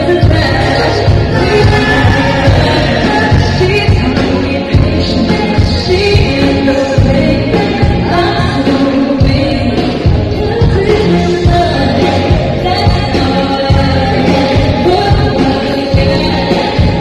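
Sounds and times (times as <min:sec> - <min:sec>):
female vocal pop song with band: 0:00.0 - 0:17.0.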